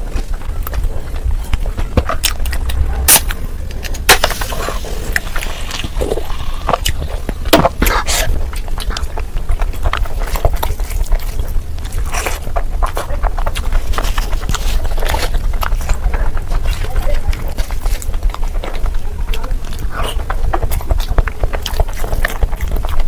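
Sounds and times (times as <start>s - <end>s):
mouth clicks and crunches: 0.0s - 23.0s
steady low hum: 0.0s - 23.0s
wet chewing and smacking: 0.0s - 23.0s.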